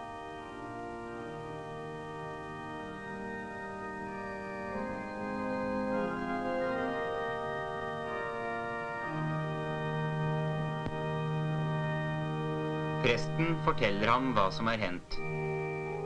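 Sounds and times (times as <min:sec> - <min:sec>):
organ playing held chords: 0:00.0 - 0:16.0.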